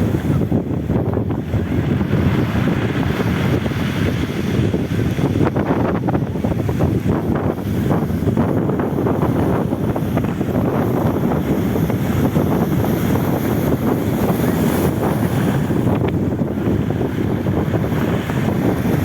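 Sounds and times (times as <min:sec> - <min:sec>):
sea surf: 0:00.0 - 0:19.0
wind blowing across microphone: 0:00.0 - 0:19.0.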